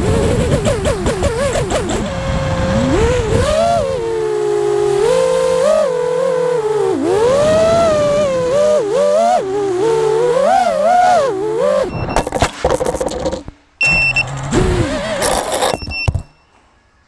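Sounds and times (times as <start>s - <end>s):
drone motors and propellers whining: 0.0s - 16.7s.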